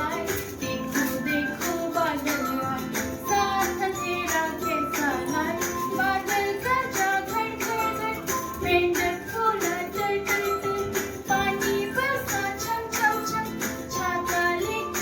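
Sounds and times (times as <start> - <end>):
jingling percussion beat: 0.0 - 15.0
sung children's melody: 0.0 - 15.0.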